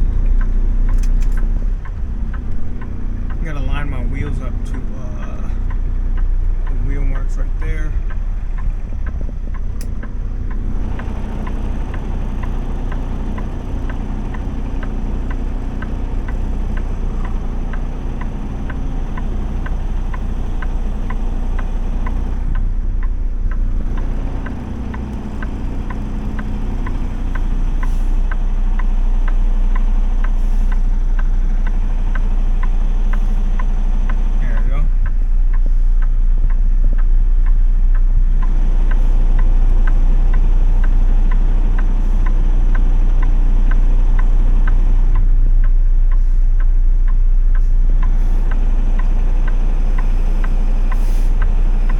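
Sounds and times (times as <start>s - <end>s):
light regular ticking: 0.0s - 51.9s
truck engine and road noise: 0.0s - 51.9s.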